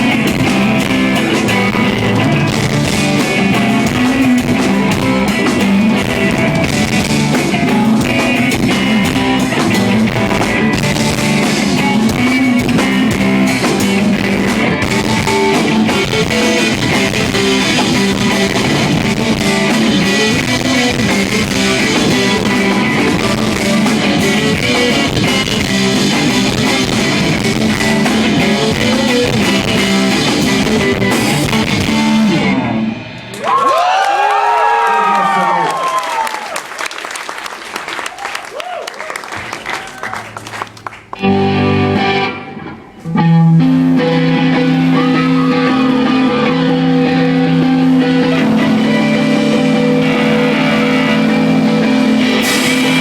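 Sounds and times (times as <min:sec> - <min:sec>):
live rock band playing: 0:00.0 - 0:33.7, 0:39.2 - 0:53.0.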